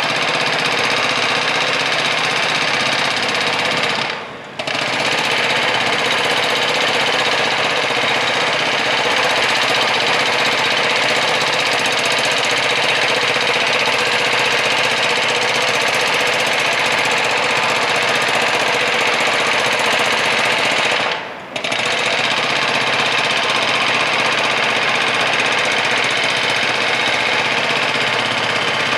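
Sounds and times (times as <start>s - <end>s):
jackhammer hammering: 0.0s - 28.9s.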